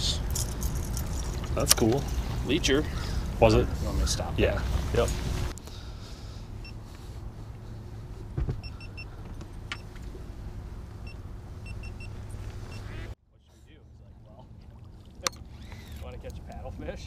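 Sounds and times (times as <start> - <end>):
boat motor humming: 0.0 - 13.2, 13.8 - 17.0.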